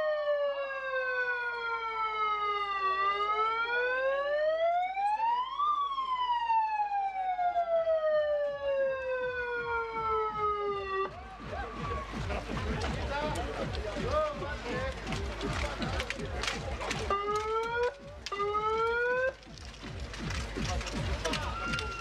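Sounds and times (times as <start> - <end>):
siren wailing slowly: 0.0 - 12.9, 13.6 - 22.0.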